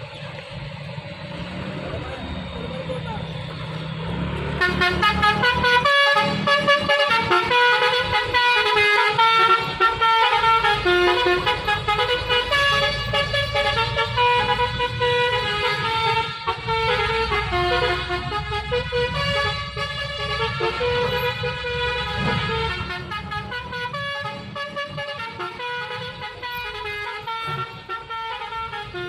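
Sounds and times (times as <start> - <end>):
truck engine running: 0.0 - 29.0
truck horn playing a tune: 4.1 - 29.0.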